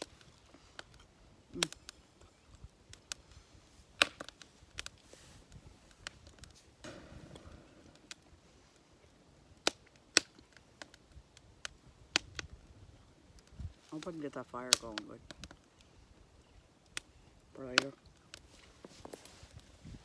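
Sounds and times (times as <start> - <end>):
campfire wood crackling: 0.0 - 20.0
sharp popping of fire: 0.0 - 20.0.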